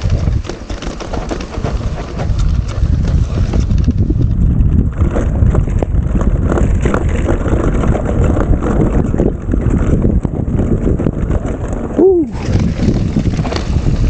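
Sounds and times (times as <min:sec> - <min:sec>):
bike knocking and rattling: 0:00.0 - 0:14.0
wind buffeting microphone: 0:00.0 - 0:14.0.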